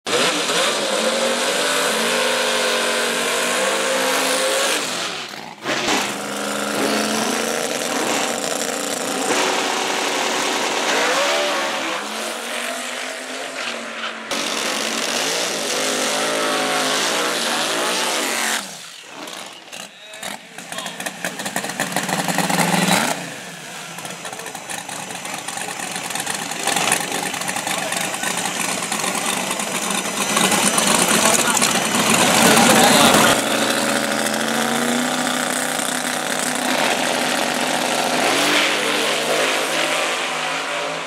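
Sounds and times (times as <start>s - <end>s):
car engine at high revs: 0.0s - 41.0s.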